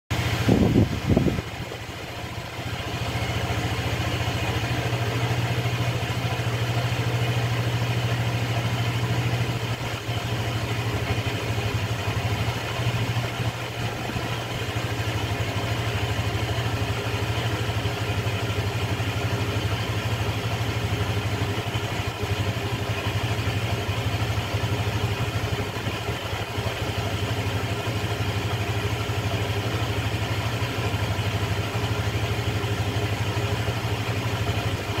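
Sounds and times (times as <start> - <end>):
scooter engine starting and idling: 0.1 - 35.0.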